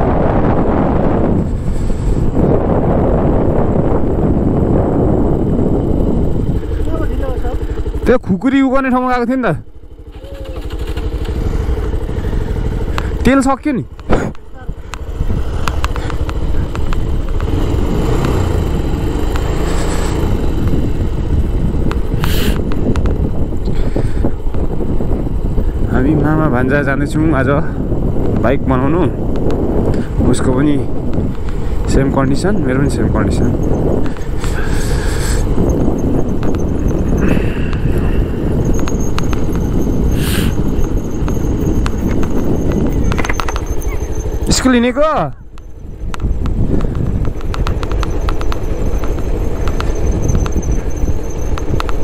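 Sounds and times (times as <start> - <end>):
motorcycle riding: 0.0 - 52.0
wind rumbling on microphone: 0.0 - 52.0.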